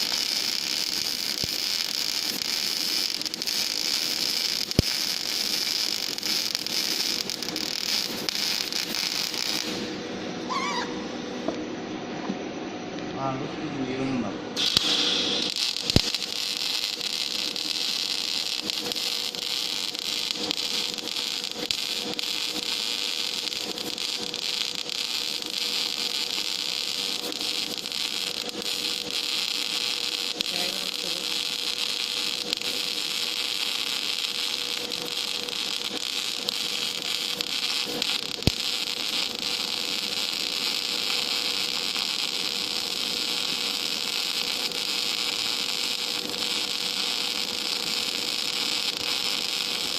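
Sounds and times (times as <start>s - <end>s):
welding arc hissing and crackling: 0.0s - 10.8s, 14.6s - 49.9s.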